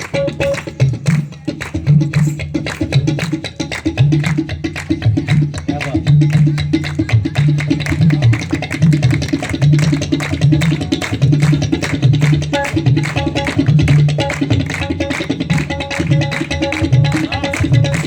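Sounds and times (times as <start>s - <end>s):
deep tabla bass notes: 0.0s - 18.0s
tabla strokes: 0.0s - 18.0s.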